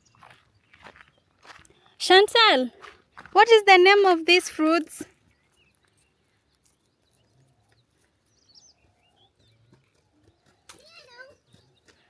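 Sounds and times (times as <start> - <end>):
distant bird chirps: 0.0 - 12.0.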